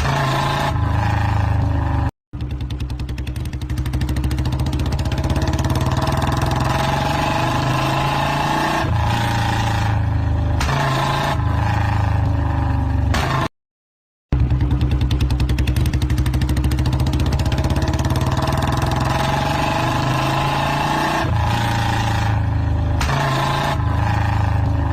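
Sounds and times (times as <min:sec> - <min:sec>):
motorcycle engine running: 0:00.0 - 0:13.4, 0:14.3 - 0:24.9.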